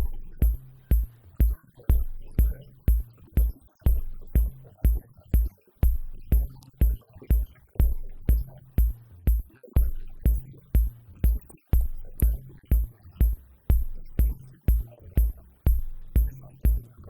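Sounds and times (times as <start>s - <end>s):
electronic music with drum-machine beat: 0.0s - 17.0s.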